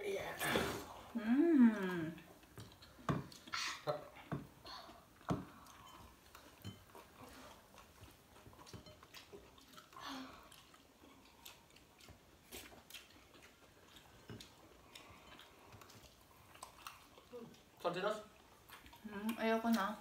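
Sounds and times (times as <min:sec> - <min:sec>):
chewing and mouth smacks: 0:02.3 - 0:03.8, 0:05.1 - 0:20.0.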